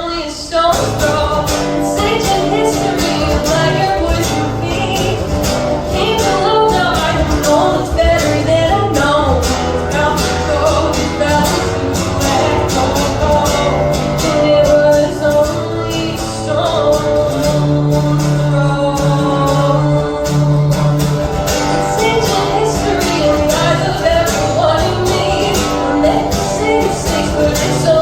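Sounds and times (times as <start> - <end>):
person singing: 0.0 - 28.0
live guitar-led music: 0.6 - 28.0.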